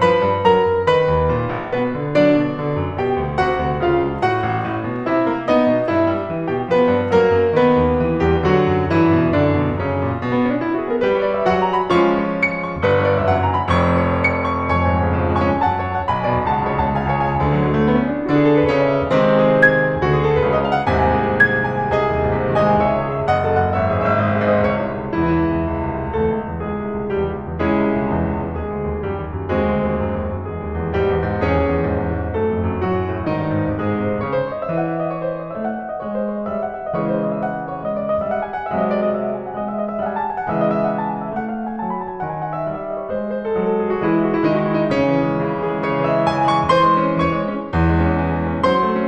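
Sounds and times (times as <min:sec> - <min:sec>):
piano music: 0:00.0 - 0:49.0.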